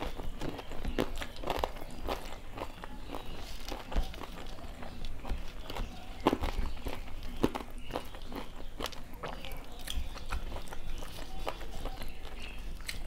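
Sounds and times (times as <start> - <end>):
close chewing and mouth sounds: 0.0 - 13.0
fingers mixing food on steel plate: 0.0 - 13.0.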